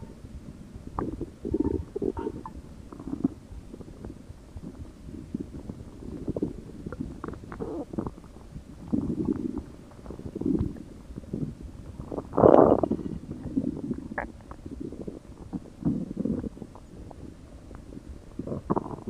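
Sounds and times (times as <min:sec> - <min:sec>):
stomach growling: 0:00.9 - 0:19.0.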